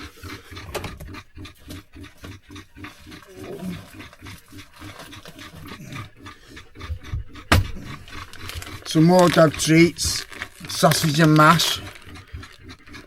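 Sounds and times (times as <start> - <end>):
dog panting rapidly: 0.0 - 13.0.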